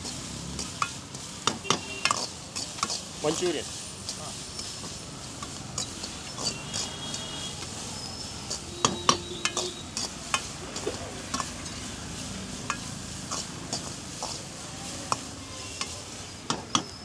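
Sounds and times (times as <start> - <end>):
metal ladle scraping a wok: 0.0 - 17.0
vegetables sizzling: 0.0 - 17.0.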